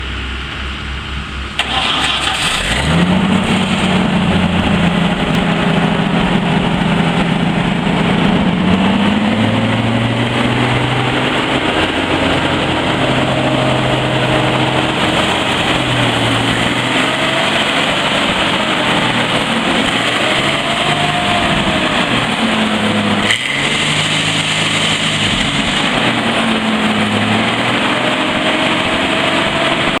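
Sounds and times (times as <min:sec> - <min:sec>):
wood chipper engine running: 0:00.0 - 0:30.0.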